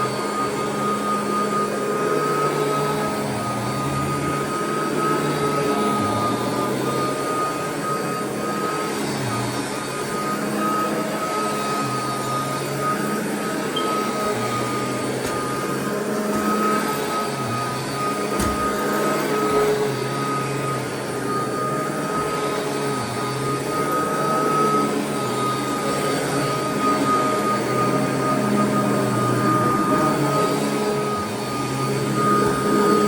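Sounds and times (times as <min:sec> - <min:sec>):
vacuum cleaner running over carpet: 0:00.0 - 0:33.0.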